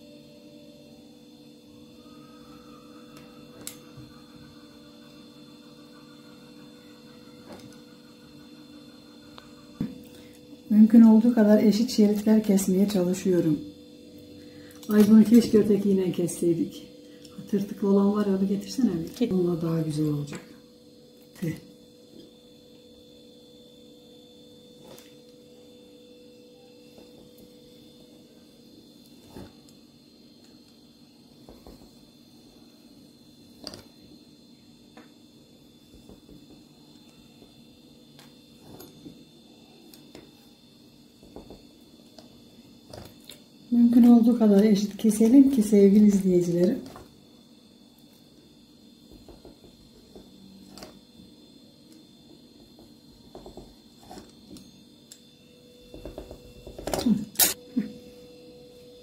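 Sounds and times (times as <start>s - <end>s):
electrical hum: 0.0s - 59.0s.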